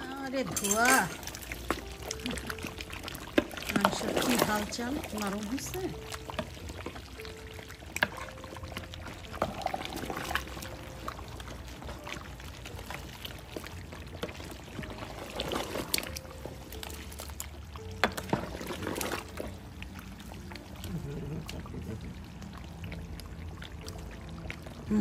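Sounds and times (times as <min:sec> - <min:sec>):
spatula stirring meat: 0:00.4 - 0:21.0
wet squelching and bubbling: 0:01.0 - 0:25.0.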